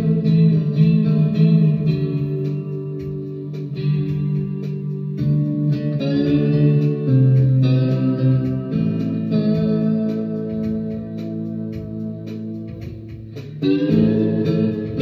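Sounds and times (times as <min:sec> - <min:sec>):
slide electric guitar: 0:00.0 - 0:15.0.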